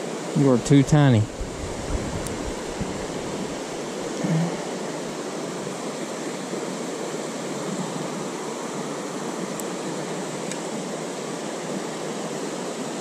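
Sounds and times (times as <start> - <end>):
river flowing over rocks: 0.0 - 13.0.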